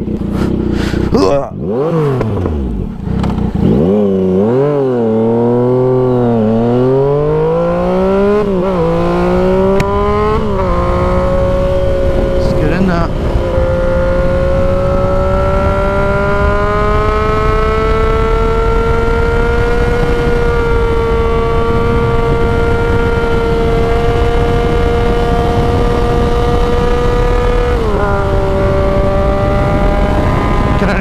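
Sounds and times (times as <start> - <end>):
motorcycle engine under way: 0.0 - 31.0.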